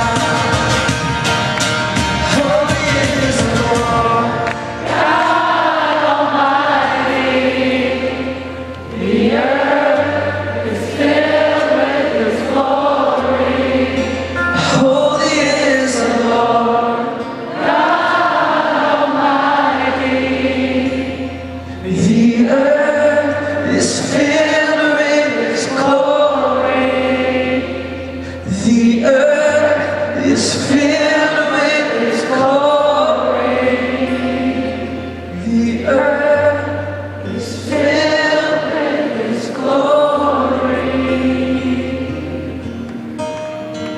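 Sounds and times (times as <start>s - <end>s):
group singing worship song: 0.0s - 42.8s
acoustic guitar: 0.0s - 43.9s.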